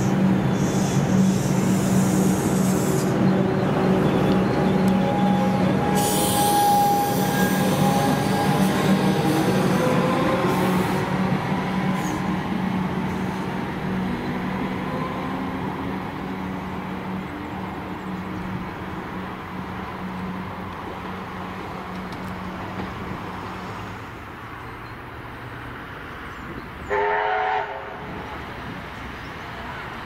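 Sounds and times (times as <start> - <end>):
train low hum: 0.0 - 30.0.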